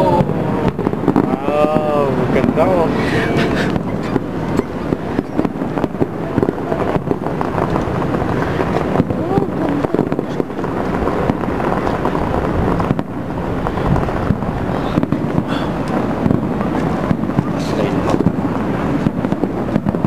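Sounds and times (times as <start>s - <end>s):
distant fireworks pops and bangs: 0.0s - 20.0s
steady rumbling noise: 0.0s - 20.0s.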